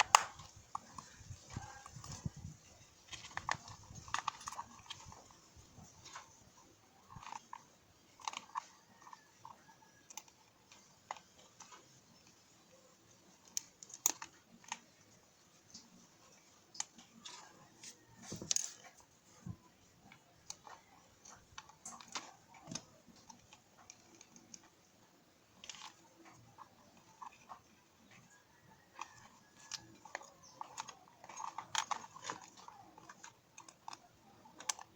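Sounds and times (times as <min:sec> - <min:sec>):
small parts and tools clicking: 0:00.0 - 0:34.9.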